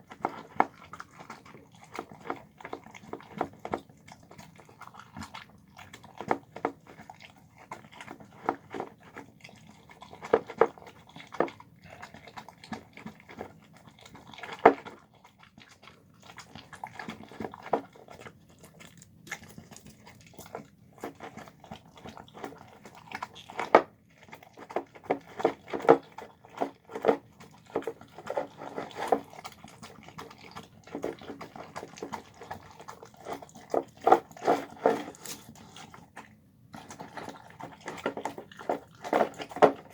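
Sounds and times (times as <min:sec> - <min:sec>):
dog chewing food: 0:00.0 - 0:39.9.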